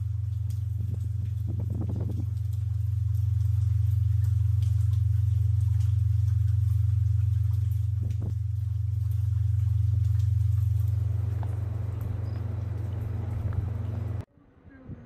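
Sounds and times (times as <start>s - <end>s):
pulsing low hum: 0.0s - 15.0s.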